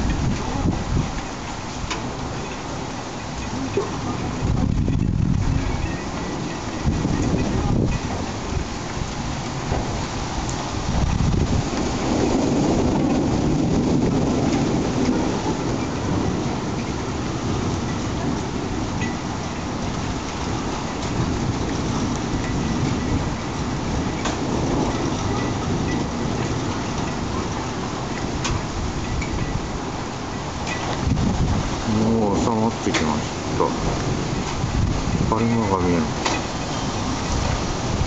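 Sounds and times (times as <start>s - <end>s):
gusting wind rumble: 0.0s - 38.0s
heavy rain pouring: 0.0s - 38.0s.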